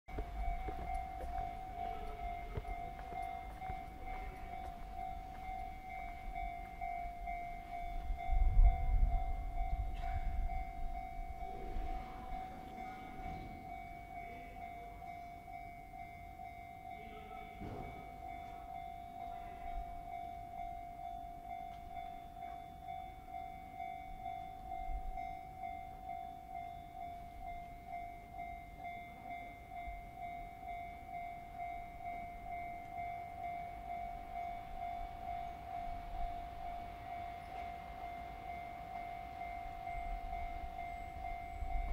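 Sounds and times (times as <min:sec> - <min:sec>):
electric train rumble: 0:00.1 - 0:41.9.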